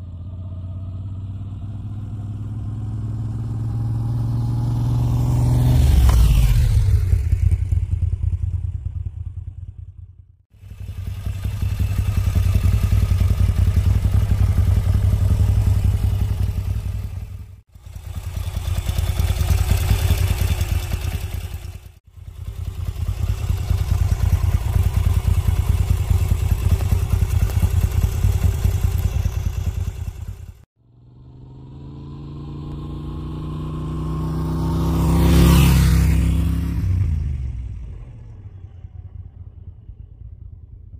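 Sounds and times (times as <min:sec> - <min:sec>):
motorcycle engine running: 0:00.0 - 0:40.1.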